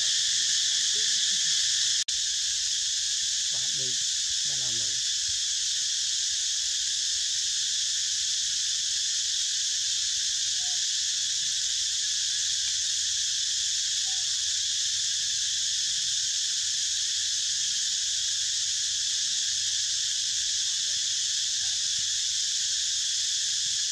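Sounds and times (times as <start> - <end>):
high-pitched insect chorus: 0.0 - 23.9.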